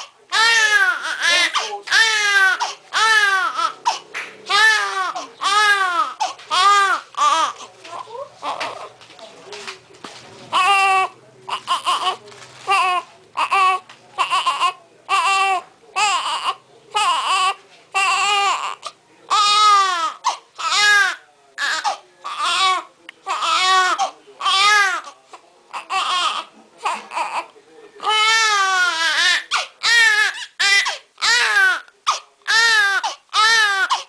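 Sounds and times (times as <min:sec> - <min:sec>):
baby crying: 0:00.0 - 0:08.9, 0:10.5 - 0:34.0.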